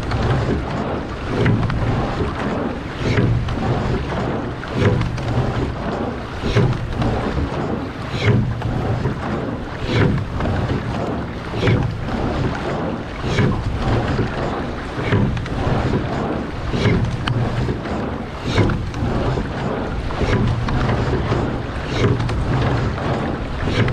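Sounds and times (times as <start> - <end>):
oars splashing and knocking: 0.0 - 23.9
water rushing past hull: 0.0 - 23.9
wind on microphone: 0.0 - 23.9.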